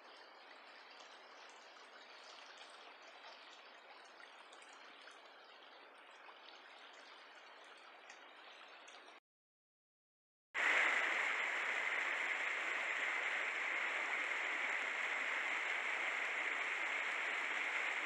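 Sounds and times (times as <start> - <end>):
stream water running: 0.0 - 9.2, 10.6 - 18.0.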